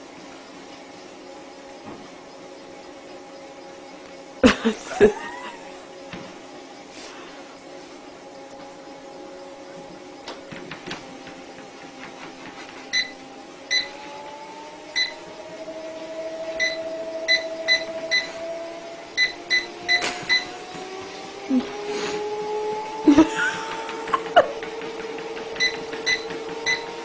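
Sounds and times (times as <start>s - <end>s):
treadmill motor whining: 0.0s - 27.0s.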